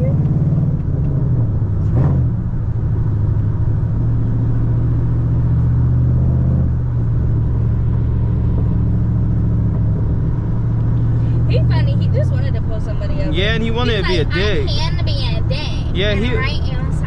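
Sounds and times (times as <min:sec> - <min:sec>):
car engine loud drone: 0:00.0 - 0:17.0.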